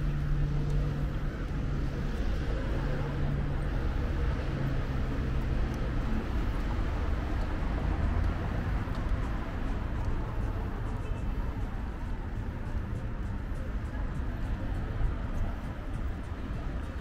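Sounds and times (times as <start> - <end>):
traffic noise: 0.0 - 17.0
vehicle engine humming: 0.0 - 17.0.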